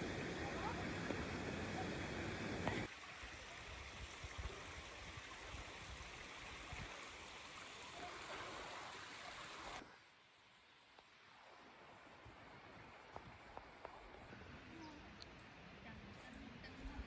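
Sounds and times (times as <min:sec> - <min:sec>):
stream water babbling: 0:00.0 - 0:17.0.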